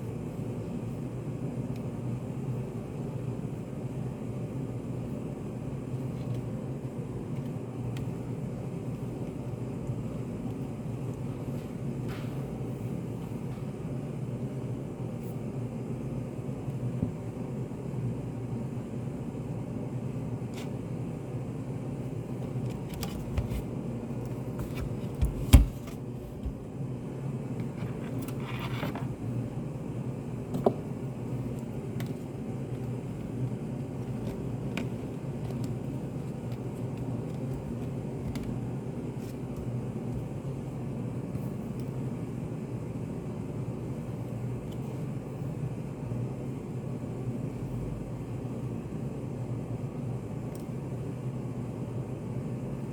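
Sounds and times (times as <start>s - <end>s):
low room hum and rumble: 0.0s - 52.9s.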